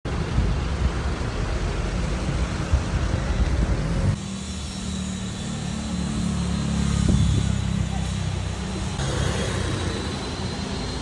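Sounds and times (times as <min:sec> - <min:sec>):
low rumbling street noise: 0:00.0 - 0:11.0.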